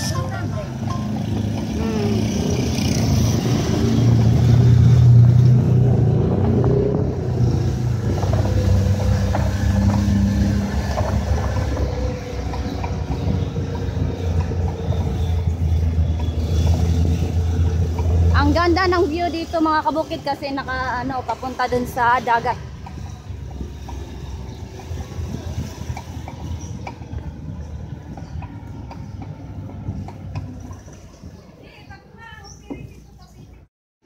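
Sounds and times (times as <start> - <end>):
tyre road noise: 0.0 - 33.7.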